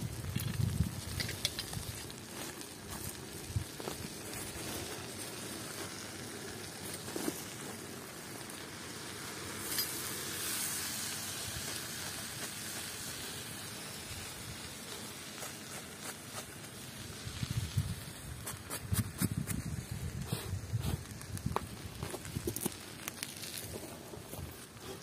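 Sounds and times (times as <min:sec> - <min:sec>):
fire pops and crackles: 0:00.0 - 0:25.0
food sizzling over fire: 0:00.0 - 0:25.0.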